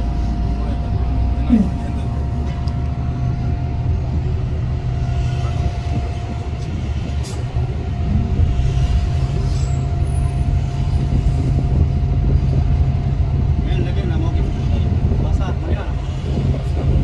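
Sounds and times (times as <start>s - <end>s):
constant hum: 0.0s - 17.0s
train carriage rumble: 0.0s - 17.0s.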